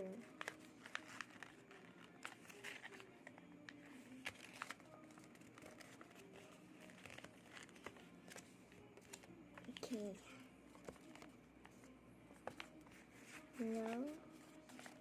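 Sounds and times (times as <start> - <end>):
paper being folded and creased: 0.0 - 10.0, 10.7 - 11.8, 12.4 - 15.0.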